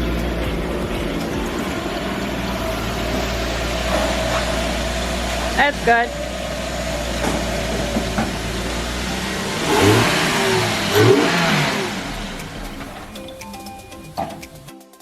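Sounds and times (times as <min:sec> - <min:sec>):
car engine running and revving: 0:00.0 - 0:14.7.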